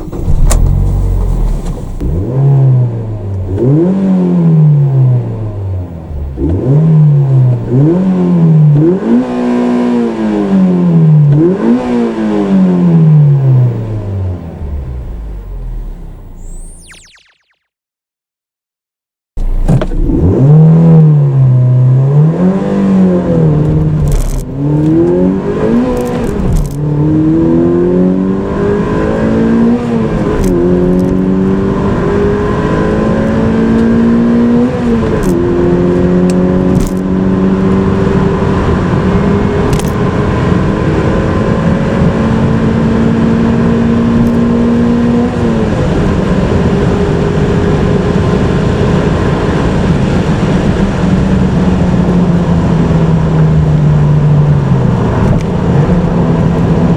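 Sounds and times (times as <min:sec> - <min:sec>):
car engine accelerating: 0:00.0 - 0:17.2, 0:19.4 - 0:56.9.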